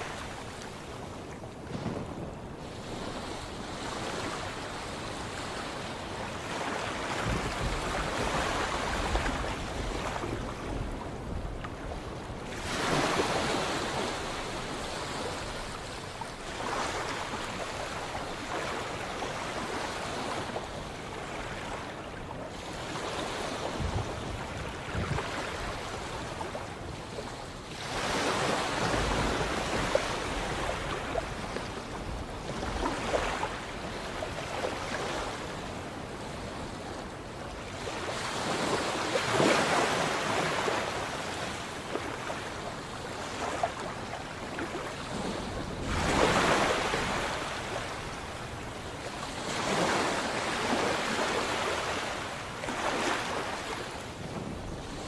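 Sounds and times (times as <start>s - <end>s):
sea waves breaking: 0.0s - 55.0s.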